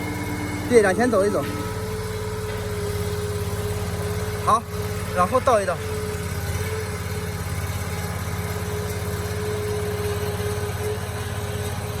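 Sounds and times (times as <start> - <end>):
loader engine running: 0.0 - 12.0
steady whine: 0.0 - 12.0.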